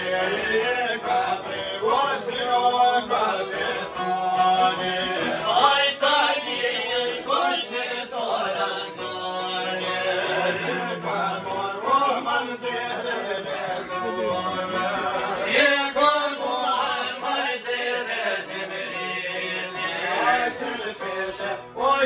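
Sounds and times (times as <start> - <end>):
man singing folk song: 0.0 - 22.0
strummed lutes drone: 0.0 - 22.0.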